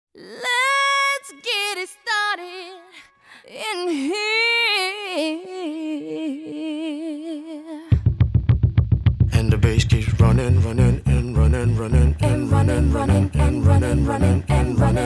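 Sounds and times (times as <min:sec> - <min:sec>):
high voice singing with vibrato: 0:00.2 - 0:08.0, 0:09.4 - 0:15.0.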